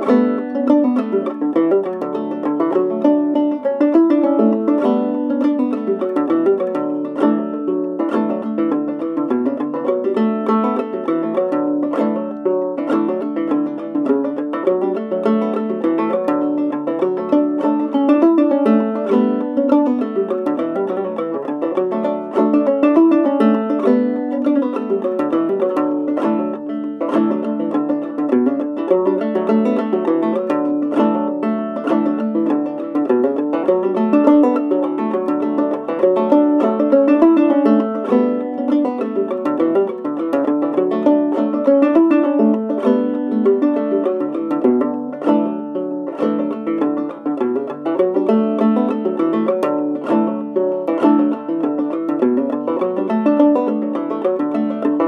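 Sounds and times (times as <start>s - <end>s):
plucked banjo tune: 0.0s - 55.0s.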